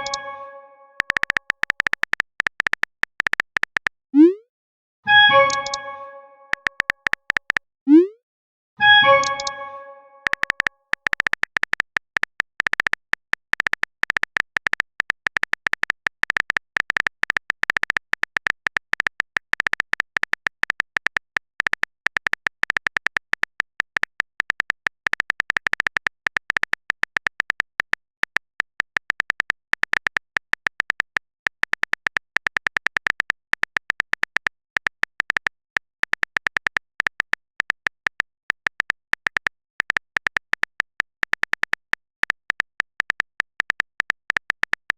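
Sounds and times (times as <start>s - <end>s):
keyboard typing clicks: 0.0s - 4.4s, 5.1s - 7.6s, 8.8s - 44.9s.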